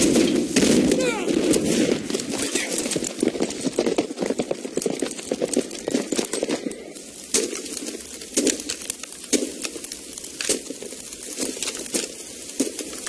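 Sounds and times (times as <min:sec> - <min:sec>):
horse hooves clattering: 0:00.0 - 0:13.0.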